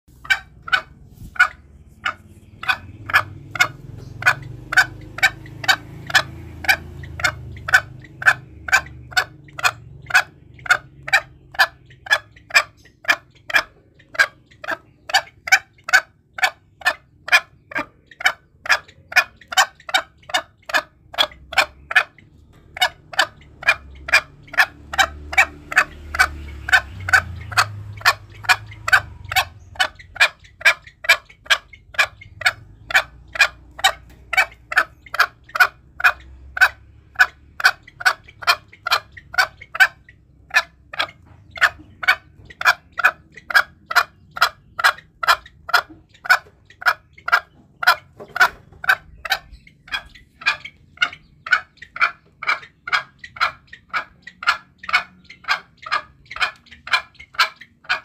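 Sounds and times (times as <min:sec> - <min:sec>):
junglefowl call notes: 0:00.1 - 0:58.0.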